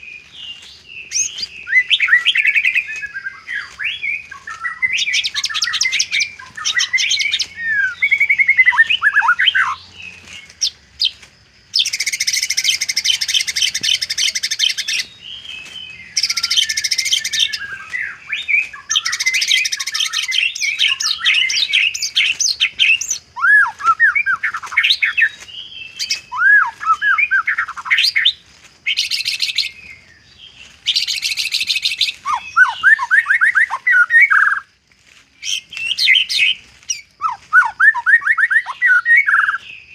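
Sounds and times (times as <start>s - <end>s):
bird rattling trills: 0.0s - 29.9s, 30.8s - 34.6s
bird singing whistled phrases: 0.0s - 30.2s, 30.9s - 34.7s, 35.4s - 39.7s.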